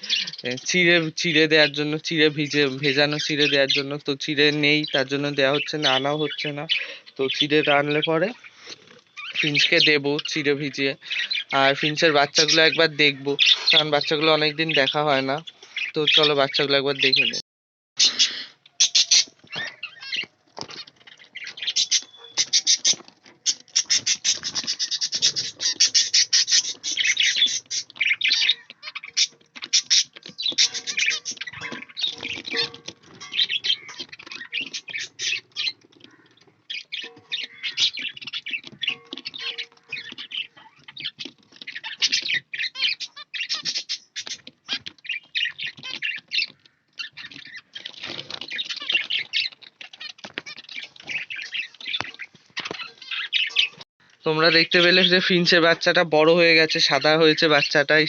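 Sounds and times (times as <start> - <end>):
caged birds chirping: 0.0 - 17.4, 18.0 - 58.0.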